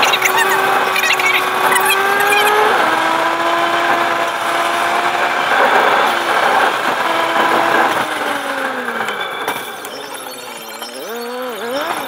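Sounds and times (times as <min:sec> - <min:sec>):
car engine running: 0:00.0 - 0:12.0
road and wind noise: 0:00.0 - 0:12.0.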